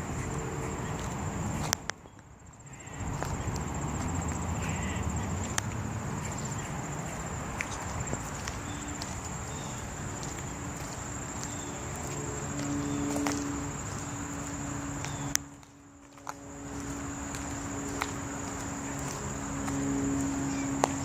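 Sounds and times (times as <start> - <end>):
light footsteps: 0.0 - 21.0
high-pitched insect trill: 2.5 - 21.0.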